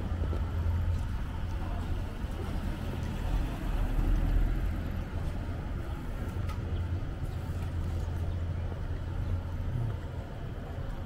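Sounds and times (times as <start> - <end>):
low rumble of car traffic: 0.0 - 11.0.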